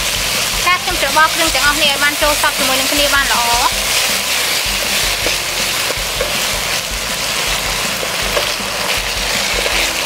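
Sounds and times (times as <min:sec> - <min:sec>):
aromatics sizzling in hot oil: 0:00.0 - 0:10.0
spatula stirring in wok: 0:00.0 - 0:10.0.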